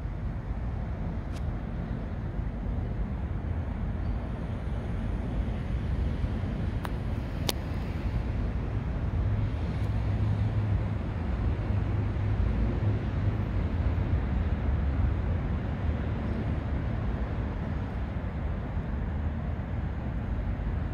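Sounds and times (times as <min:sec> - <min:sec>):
low outdoor rumble: 0:00.0 - 0:20.9.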